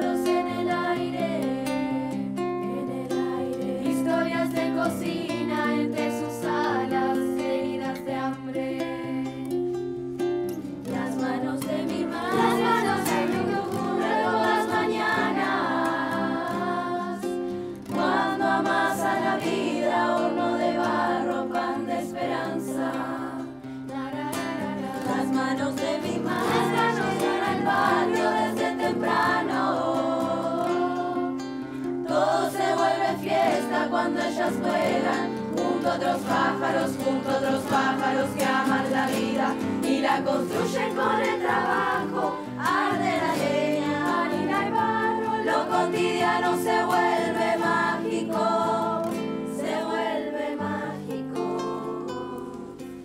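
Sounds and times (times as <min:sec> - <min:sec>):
acoustic guitar: 0:00.0 - 0:53.0
children's choir singing folk song: 0:00.0 - 0:53.0.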